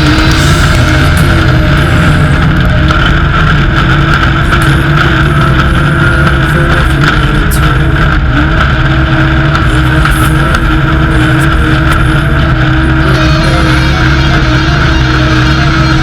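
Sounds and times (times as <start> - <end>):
road and wind noise: 0.0 - 13.2
race vehicle engine running hard: 0.0 - 16.0.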